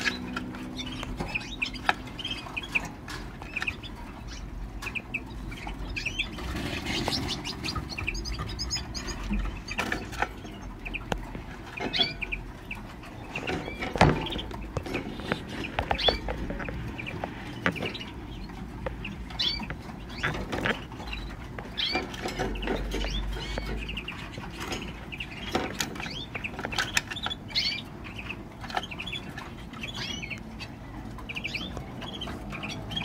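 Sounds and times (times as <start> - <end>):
finch chirping: 0.0 - 33.0.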